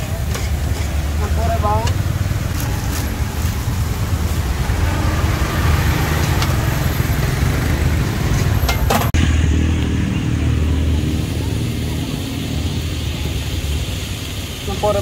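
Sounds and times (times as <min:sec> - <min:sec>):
low rumble of street noise: 0:00.0 - 0:15.0.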